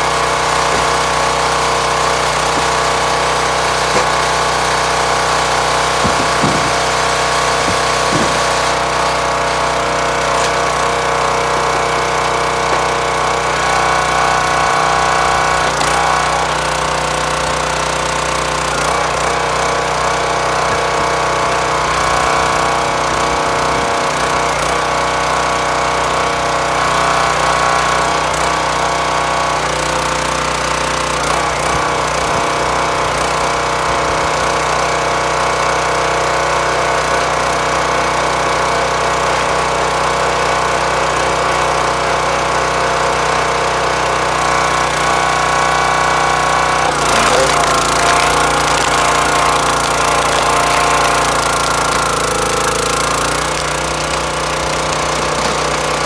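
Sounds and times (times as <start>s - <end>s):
log splitter engine running: 0.0s - 56.0s.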